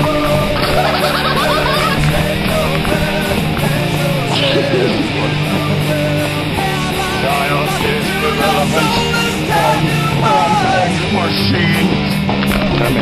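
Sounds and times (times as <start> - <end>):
heavy rock music with electric guitar: 0.0 - 13.0.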